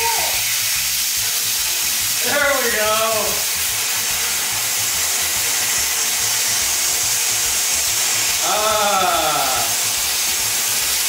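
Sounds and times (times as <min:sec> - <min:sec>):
pressure cooker venting steam: 0:00.0 - 0:11.0.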